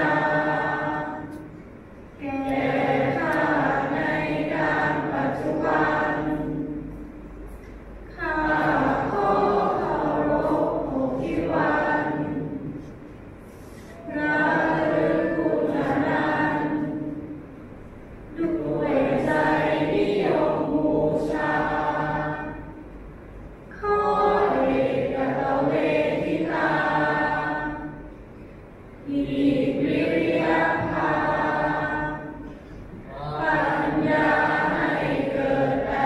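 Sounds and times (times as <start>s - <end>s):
group chanting in unison: 0.0s - 1.4s, 2.2s - 7.0s, 8.1s - 12.8s, 14.1s - 17.2s, 18.4s - 22.7s, 23.8s - 28.1s, 29.0s - 32.5s, 33.1s - 36.0s.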